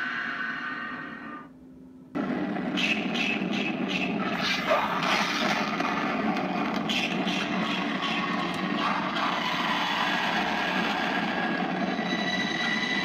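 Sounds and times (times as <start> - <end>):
steady mechanical whir: 0.0 - 13.0.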